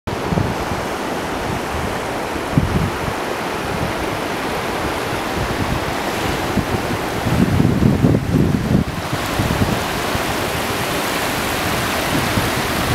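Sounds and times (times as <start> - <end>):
waves washing on sand: 0.1 - 12.9
wind buffeting microphone: 0.1 - 12.9.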